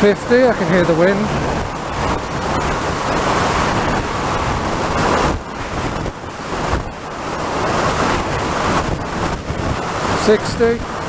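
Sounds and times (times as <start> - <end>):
wind buffeting helmet microphone: 0.0 - 11.0.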